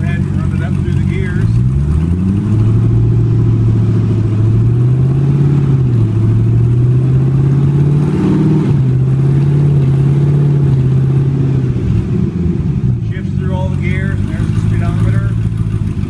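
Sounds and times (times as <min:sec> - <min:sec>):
engine running on test stand: 0:00.0 - 0:11.3, 0:13.0 - 0:16.0.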